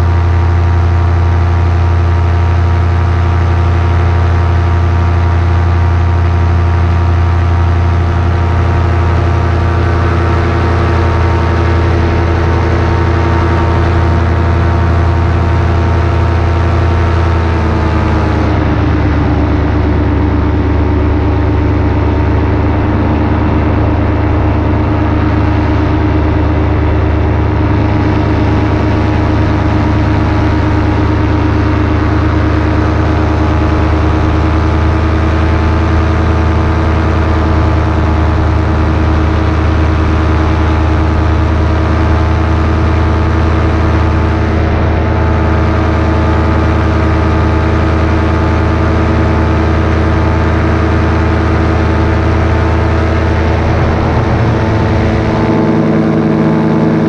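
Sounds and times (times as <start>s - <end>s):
paramotor engine and propeller running: 0.0s - 57.0s.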